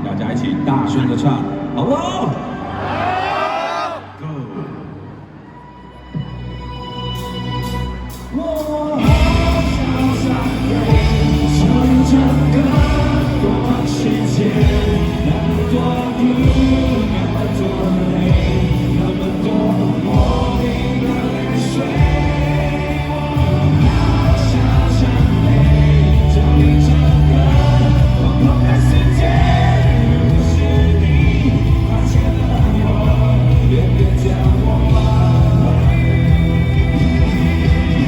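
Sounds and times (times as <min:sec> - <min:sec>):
live pop-rock band with singing: 0:05.9 - 0:38.0.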